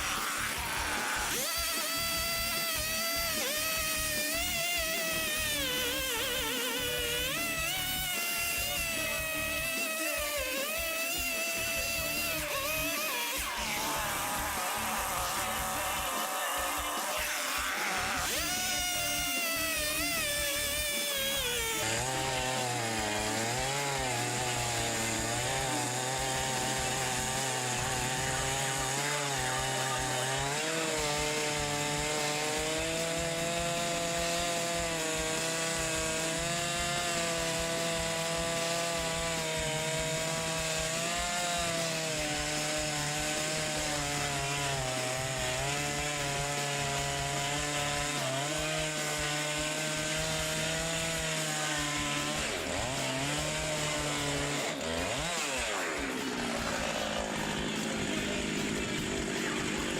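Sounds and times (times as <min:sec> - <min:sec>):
chainsaw ripping a log: 0:00.0 - 0:59.9.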